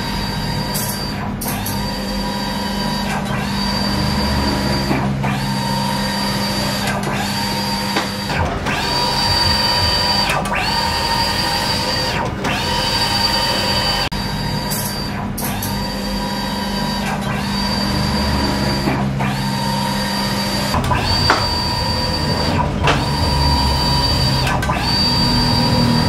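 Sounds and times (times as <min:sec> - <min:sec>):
printer carriage motor whine: 0:00.0 - 0:26.0.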